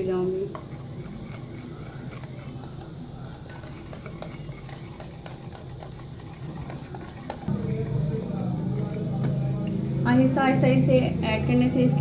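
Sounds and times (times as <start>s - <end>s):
whisk clicking and scraping bowl: 0.0s - 9.7s.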